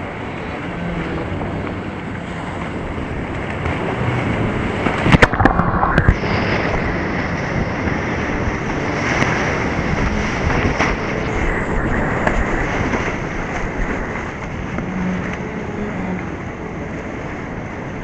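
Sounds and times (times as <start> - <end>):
water splashes: 0.0 - 18.0
whitewater rushing: 0.0 - 18.0.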